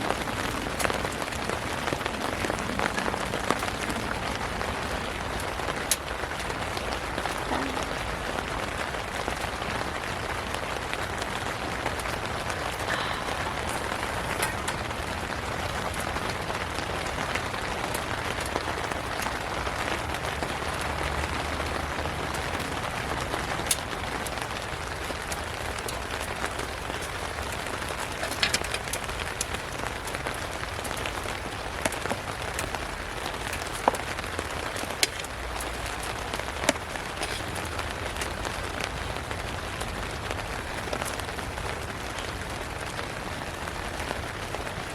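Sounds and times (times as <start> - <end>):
rain hiss: 0.0 - 44.9
raindrop ticks: 0.0 - 44.9.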